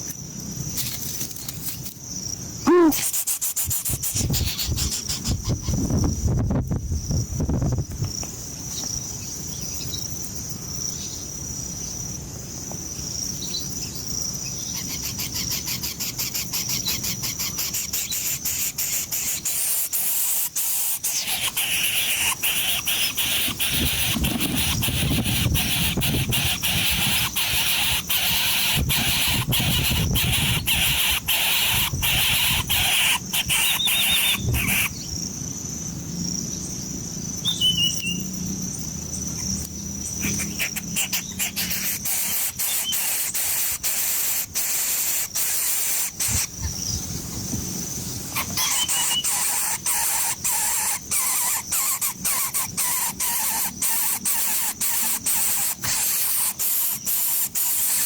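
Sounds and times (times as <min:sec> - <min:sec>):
insects buzzing and chirping: 0:00.0 - 0:58.0.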